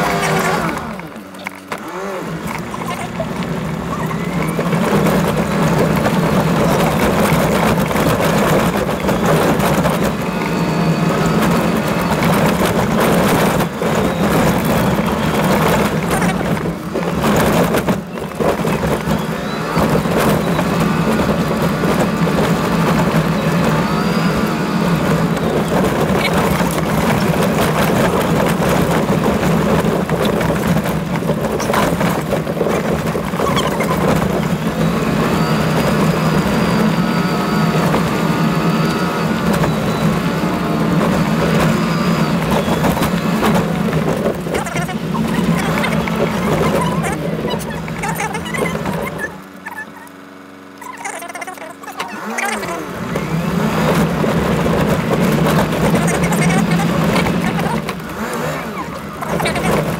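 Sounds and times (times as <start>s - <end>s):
knocks and rattles from bumps: 0.0s - 24.0s, 24.9s - 36.3s, 37.8s - 50.1s, 50.8s - 59.9s
engine drone: 0.0s - 59.9s
tyres on gravel: 0.0s - 59.9s.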